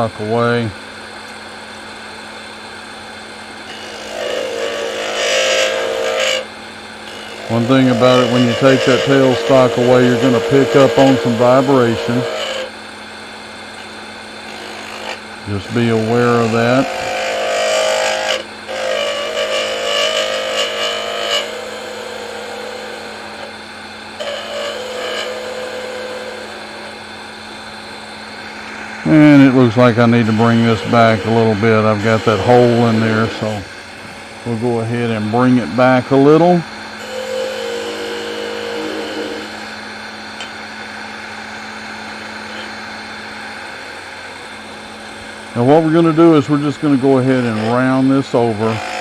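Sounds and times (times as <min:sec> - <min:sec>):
wood lathe motor hum: 0:00.0 - 0:49.0.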